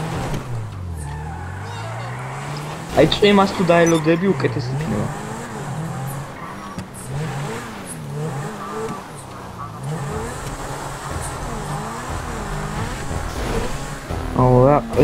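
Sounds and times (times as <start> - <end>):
video game car engine revving: 0.0 - 15.0.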